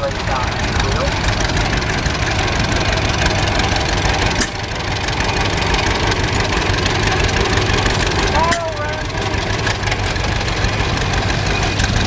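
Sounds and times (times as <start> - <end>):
tractor engine driving past: 0.0 - 12.0.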